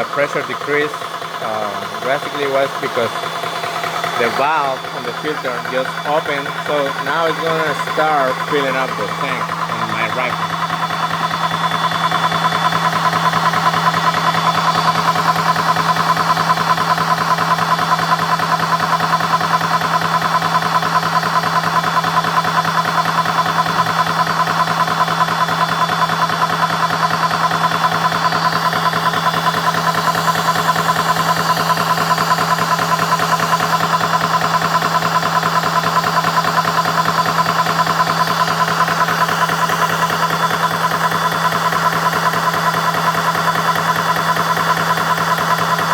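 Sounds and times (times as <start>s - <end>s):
air compressor pumping: 0.0s - 45.9s.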